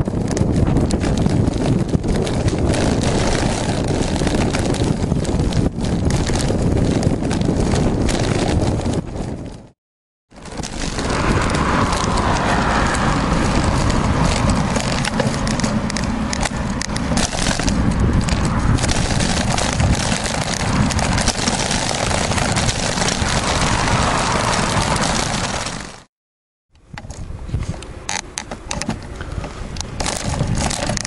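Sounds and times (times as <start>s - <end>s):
bicycle riding rumble: 0.0s - 26.1s, 26.7s - 31.0s.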